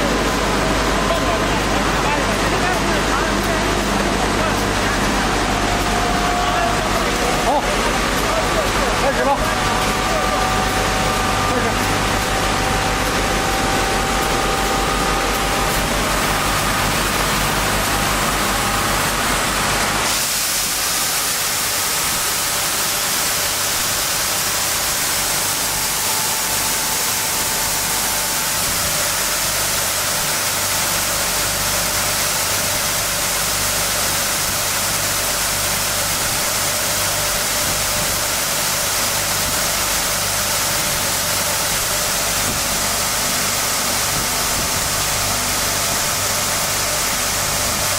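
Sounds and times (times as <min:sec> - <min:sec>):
sanding machine running: 0:00.0 - 0:47.9.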